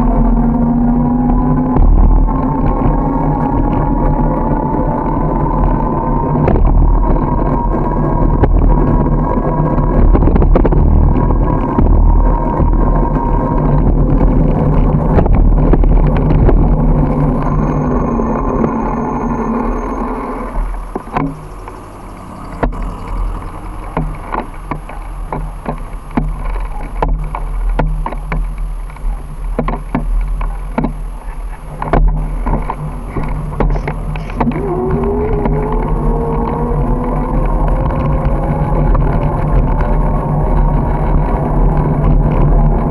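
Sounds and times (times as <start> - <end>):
vehicle engine rising in pitch: 0.0 - 26.1, 32.2 - 42.9
road rumble: 0.0 - 42.9
wind buffeting microphone: 0.0 - 42.9.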